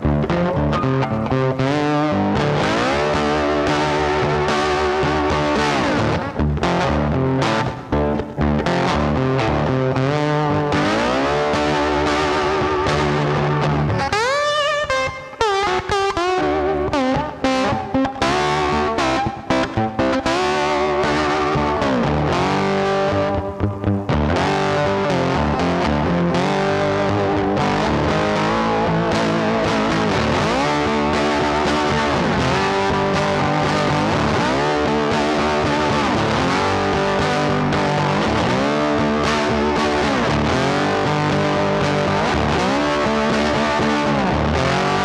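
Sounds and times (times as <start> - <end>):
guitar music with sliding notes: 0.0 - 45.0.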